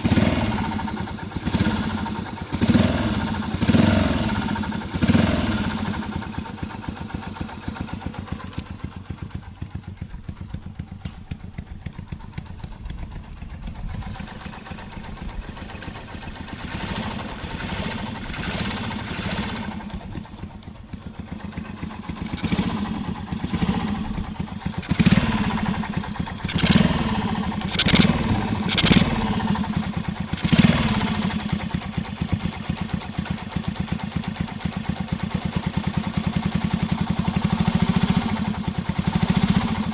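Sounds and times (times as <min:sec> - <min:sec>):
motorcycle engine idling with clatter: 0:00.0 - 0:39.9.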